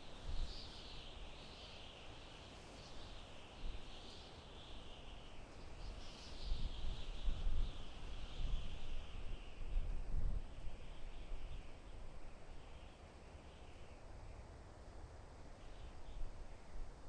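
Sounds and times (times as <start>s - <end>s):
wind blowing through forest: 0.0s - 17.0s.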